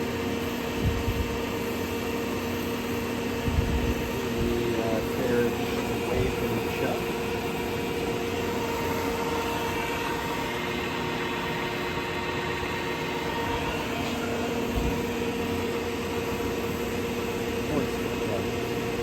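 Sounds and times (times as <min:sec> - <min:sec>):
lathe gear whine: 0:00.0 - 0:19.0.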